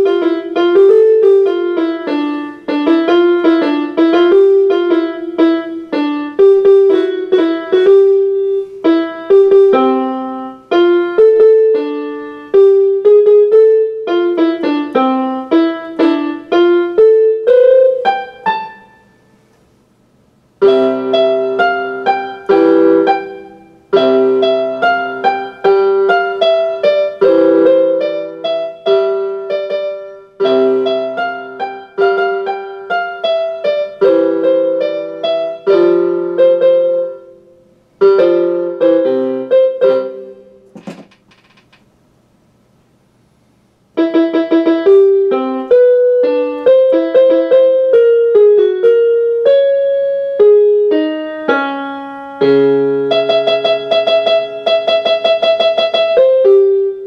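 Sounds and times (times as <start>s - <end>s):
electronic keyboard piano tune: 0.0s - 19.5s, 20.6s - 40.7s, 43.9s - 57.0s.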